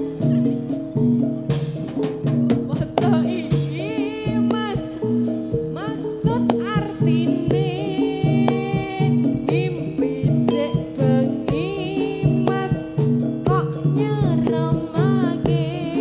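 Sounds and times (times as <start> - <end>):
drum strokes: 0.0 - 16.0
metallophone melody: 0.0 - 16.0
person singing: 2.3 - 16.0.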